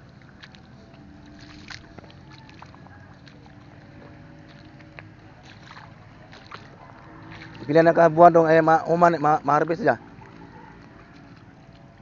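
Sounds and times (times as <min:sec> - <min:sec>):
splashes and squelches in mud: 0:00.0 - 0:12.0.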